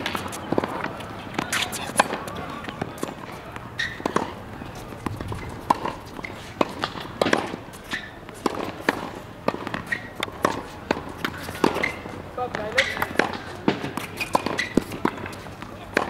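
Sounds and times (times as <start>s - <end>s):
shoe squeaks: 0.0s - 8.2s, 9.7s - 15.5s
footsteps on court: 0.0s - 16.0s
tennis balls struck by racket: 0.0s - 16.0s.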